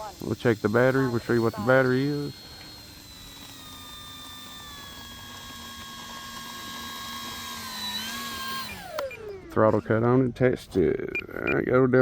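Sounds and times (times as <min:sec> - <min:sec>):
electric motor and propeller whine: 0:00.0 - 0:12.0.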